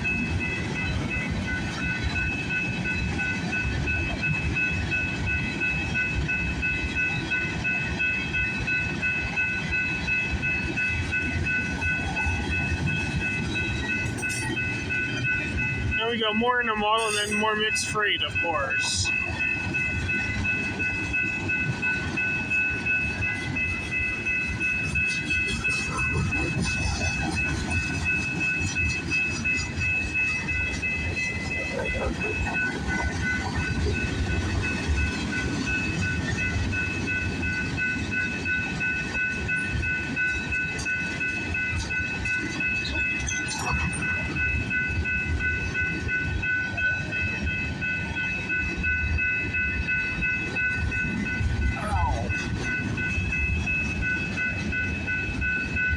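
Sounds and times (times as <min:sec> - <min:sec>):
continuous high ringing tones: 0:00.0 - 0:55.9
freight train rumbling past: 0:00.0 - 0:55.9.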